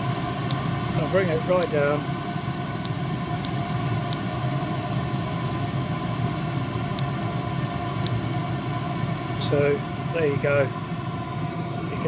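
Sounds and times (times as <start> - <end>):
air heater humming: 0.0 - 12.0
fan whine: 0.0 - 12.0.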